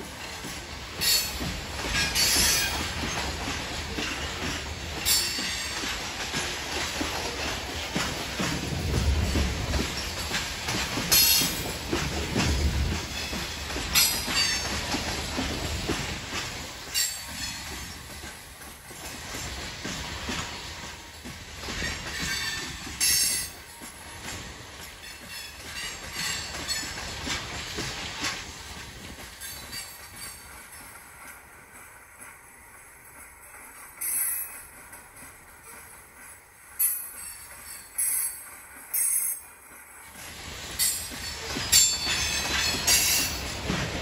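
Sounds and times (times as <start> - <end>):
freight train wheels clattering: 0.0 - 44.0.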